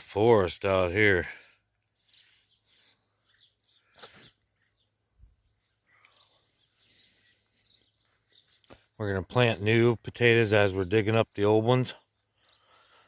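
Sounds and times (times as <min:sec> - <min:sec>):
bird chirps: 0:01.0 - 0:13.0.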